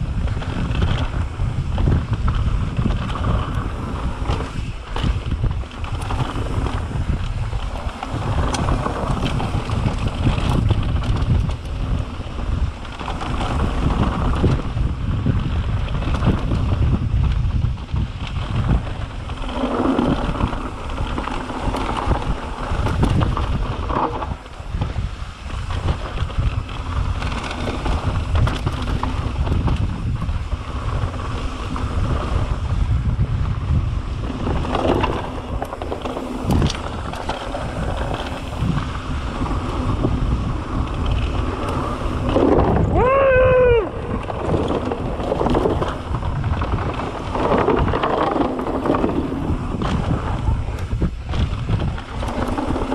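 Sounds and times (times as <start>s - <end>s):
bike tyres rolling on dirt: 0.0s - 52.9s
wind buffeting microphone: 0.0s - 52.9s.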